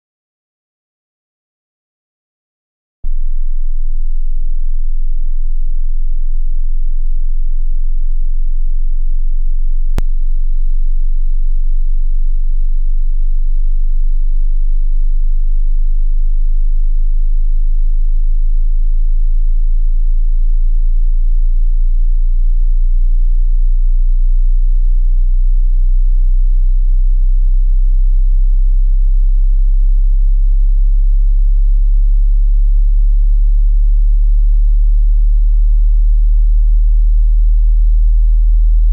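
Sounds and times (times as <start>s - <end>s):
very low pure test tone: 3.1s - 38.9s.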